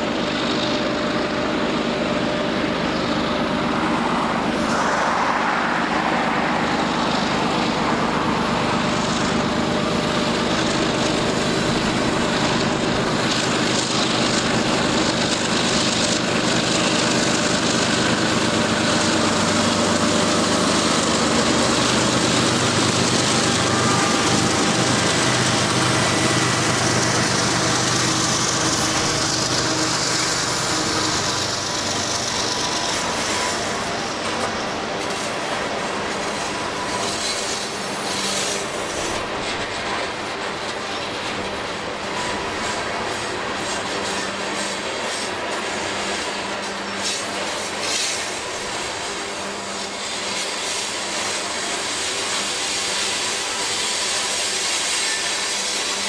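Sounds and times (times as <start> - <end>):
diesel locomotive engine drone: 0.0 - 56.0
freight cars rumbling on rails: 0.0 - 56.0.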